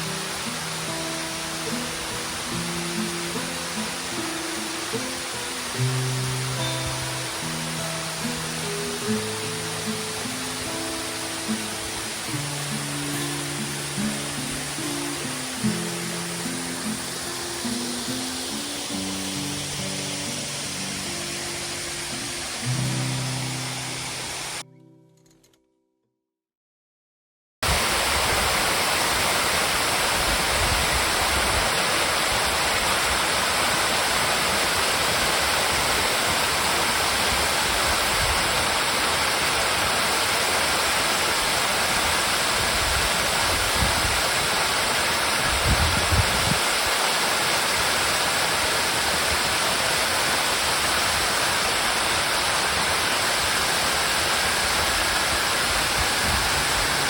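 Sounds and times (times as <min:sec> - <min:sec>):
waterfall rushing: 0:00.0 - 0:24.6, 0:27.6 - 0:57.0.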